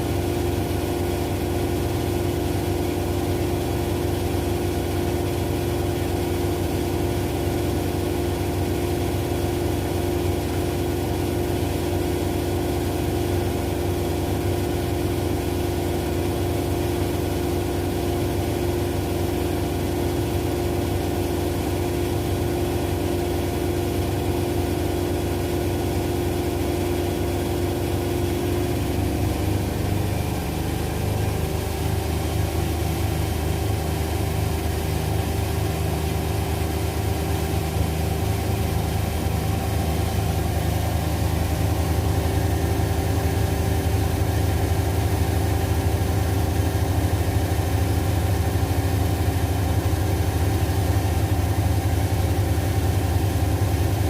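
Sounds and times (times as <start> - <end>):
washing machines spinning: 0.0 - 54.0.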